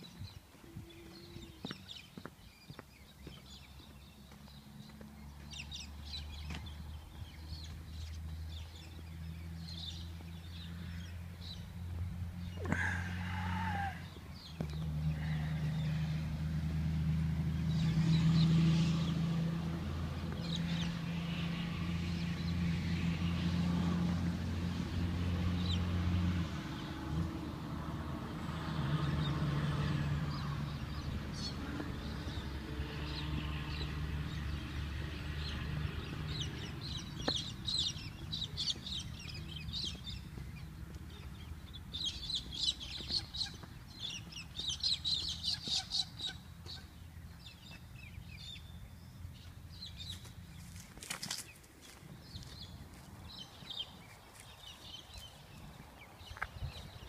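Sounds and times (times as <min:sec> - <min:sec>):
birds calling: 0:00.0 - 0:22.6, 0:29.1 - 0:57.0.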